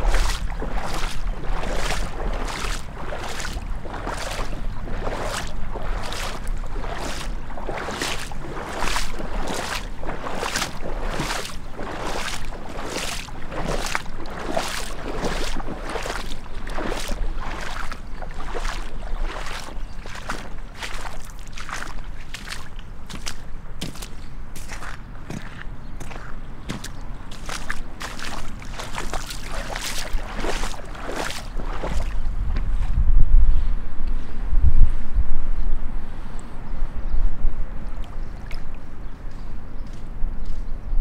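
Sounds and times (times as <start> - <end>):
boots wading through water: 0.0 - 33.0, 37.9 - 40.7.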